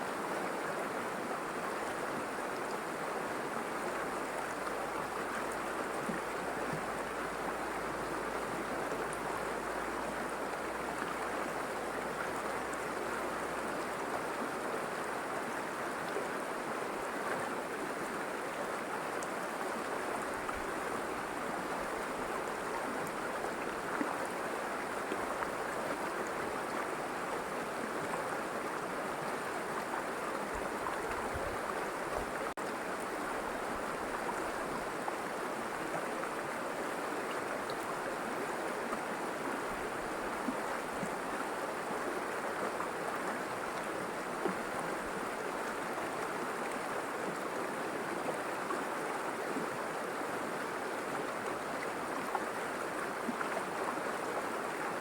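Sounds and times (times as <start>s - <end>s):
river water babbling over stones: 0.0s - 55.0s.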